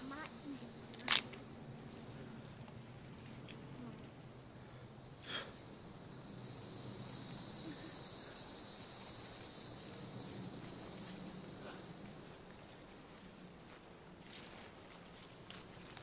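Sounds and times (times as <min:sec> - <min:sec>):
insects droning chorus: 0:00.0 - 0:16.0.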